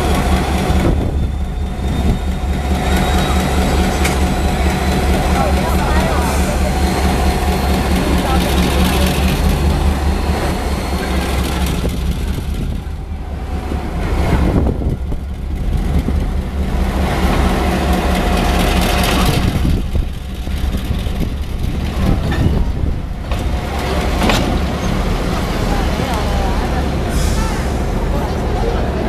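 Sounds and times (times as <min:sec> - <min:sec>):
locomotive engine humming: 0:00.0 - 0:29.0.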